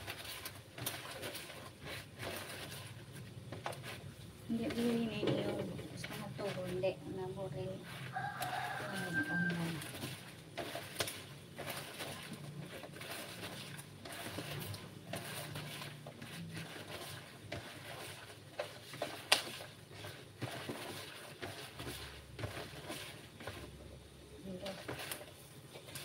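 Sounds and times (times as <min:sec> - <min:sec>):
hand squeezing wet coconut: 0:00.0 - 0:05.3, 0:05.9 - 0:26.0.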